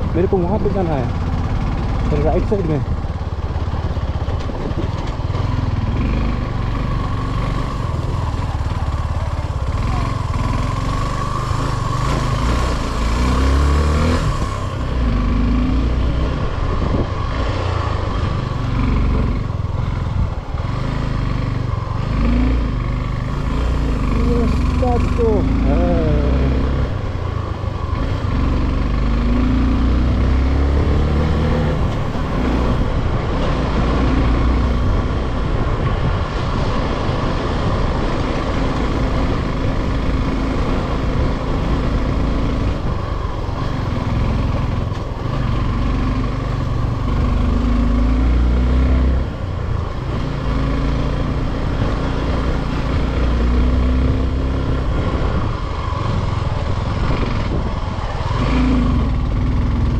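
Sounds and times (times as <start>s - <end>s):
motorcycle engine climbing: 0.0s - 59.9s.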